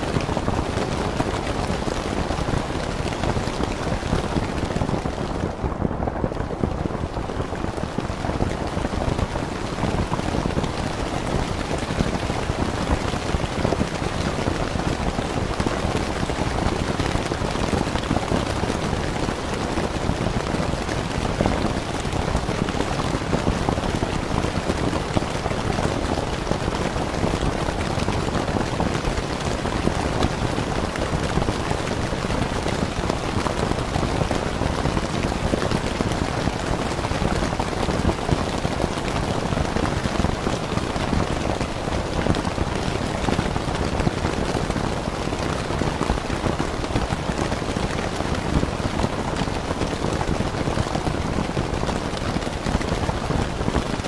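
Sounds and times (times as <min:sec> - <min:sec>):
rain pattering on a tent: 0:00.0 - 0:54.0.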